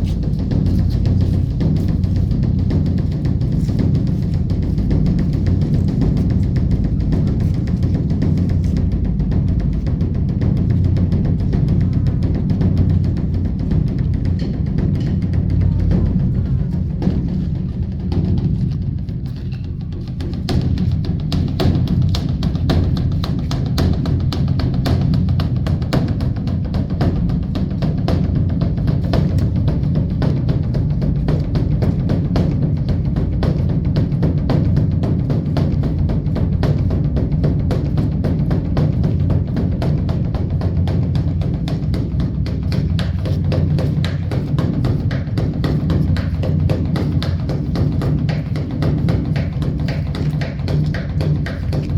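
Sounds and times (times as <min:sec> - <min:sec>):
large drum beaten rapidly: 0:00.0 - 0:51.9.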